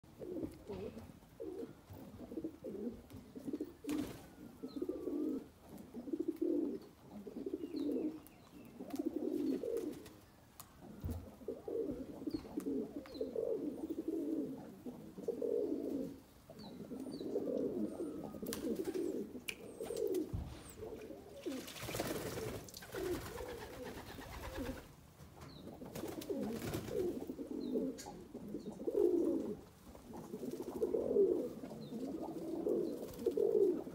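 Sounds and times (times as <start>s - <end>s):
pigeons cooing: 0.0s - 10.2s, 10.8s - 33.9s.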